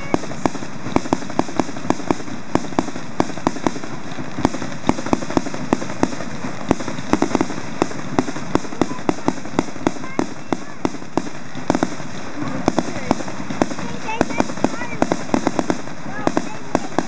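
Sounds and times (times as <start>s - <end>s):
fireworks popping: 0.0s - 17.0s
steady hiss: 0.0s - 17.0s.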